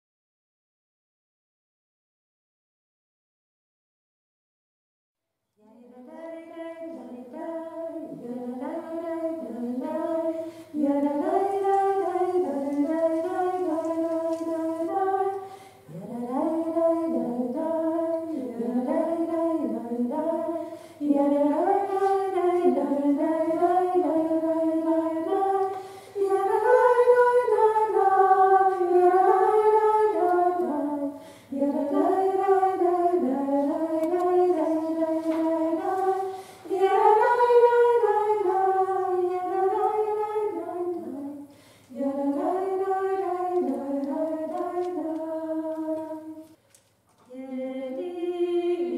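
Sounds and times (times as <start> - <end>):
woman singing unaccompanied: 5.6 - 46.5, 47.3 - 48.9.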